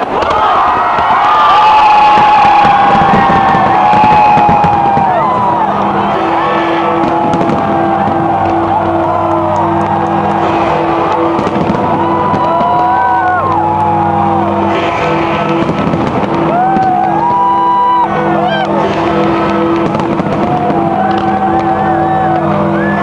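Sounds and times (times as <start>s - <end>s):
crowd voices: 0.0s - 23.0s
fireworks bangs and crackles: 0.0s - 23.0s
loud music with repeating beat: 2.2s - 23.0s.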